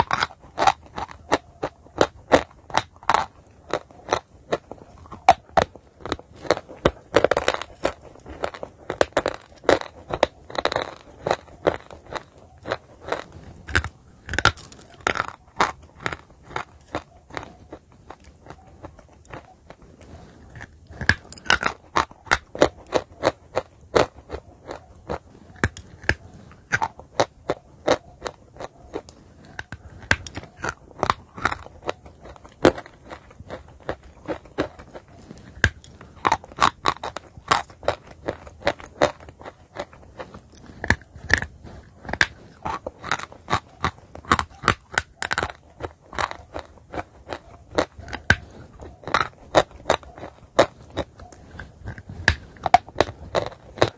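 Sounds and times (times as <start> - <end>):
chalk crunching while chewed: 0.0 - 53.9.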